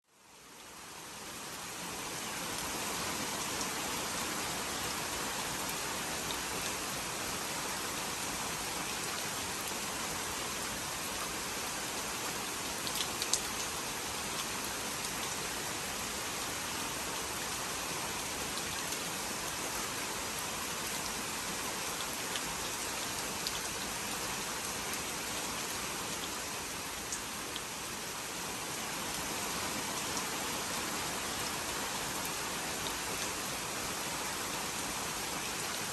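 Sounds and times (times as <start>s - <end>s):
steady rainfall: 0.0s - 35.9s.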